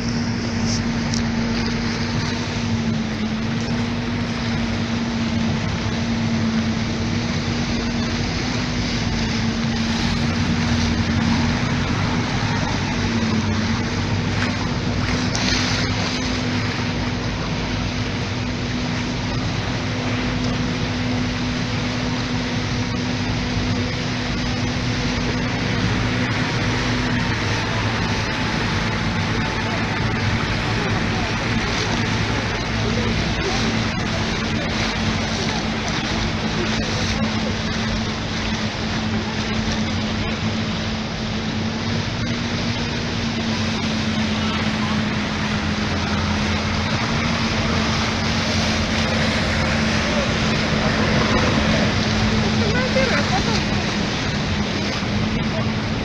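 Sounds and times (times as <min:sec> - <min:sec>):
motorboat engine droning: 0:00.0 - 0:56.0
water rushing along hull: 0:00.0 - 0:56.0.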